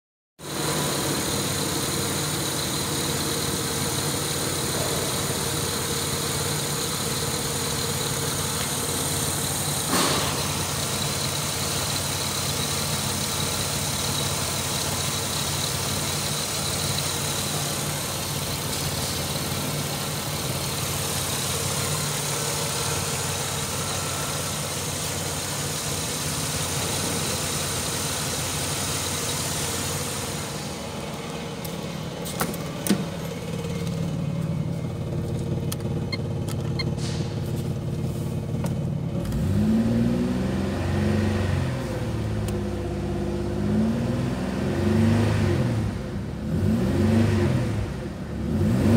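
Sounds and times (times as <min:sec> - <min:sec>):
car engine idling: 0:00.4 - 0:40.0.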